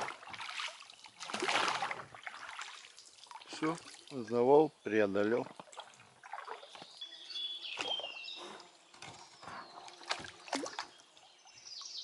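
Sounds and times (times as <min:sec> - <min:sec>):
oars dipping and splashing: 0:00.0 - 0:12.0.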